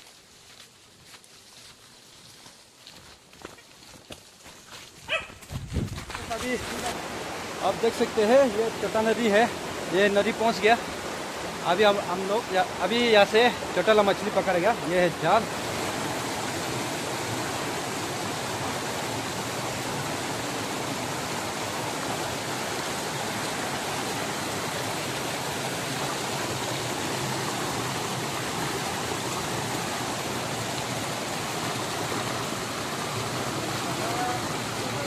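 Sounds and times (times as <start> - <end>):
small river rushing: 5.1 - 35.0.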